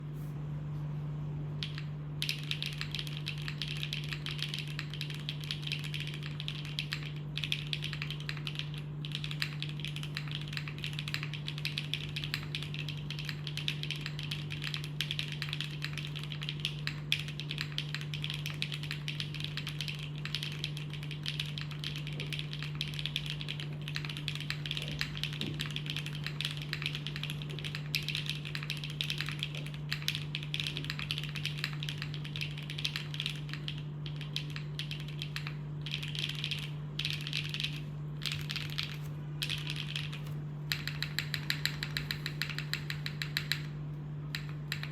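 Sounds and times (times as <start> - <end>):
fast typing on mechanical keyboard: 1.6 - 43.7, 44.3 - 44.9.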